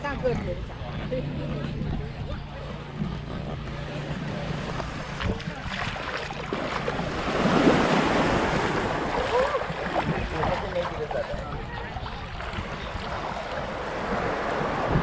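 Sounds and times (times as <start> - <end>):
wind buffeting microphone: 0.0 - 15.0
small waves washing: 2.5 - 15.0.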